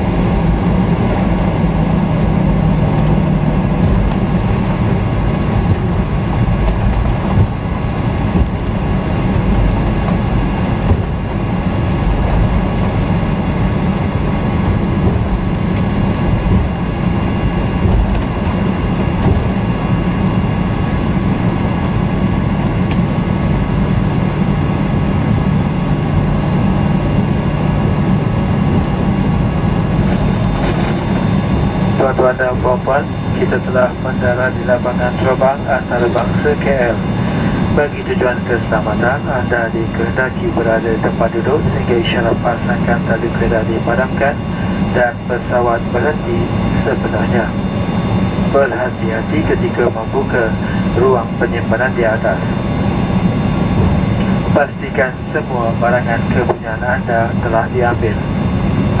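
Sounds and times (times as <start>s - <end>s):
aircraft cabin engine rumble: 0.0s - 59.0s
low hum: 0.0s - 59.0s.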